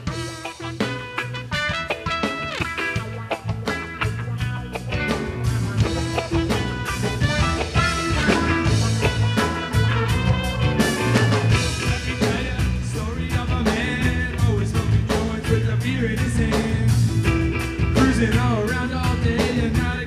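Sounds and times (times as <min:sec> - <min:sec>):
bass line: 0:00.0 - 0:20.0
drum beat: 0:00.0 - 0:20.0
guitar: 0:00.0 - 0:20.0.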